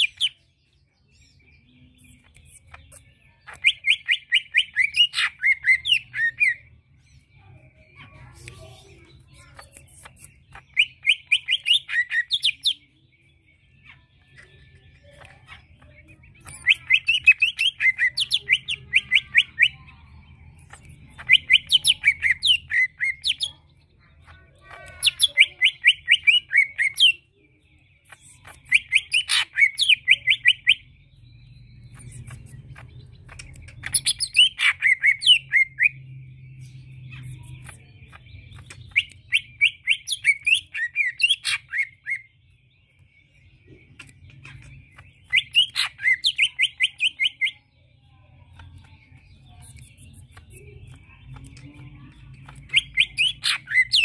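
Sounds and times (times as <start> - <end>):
bird singing high chattering notes: 0.0 - 54.0.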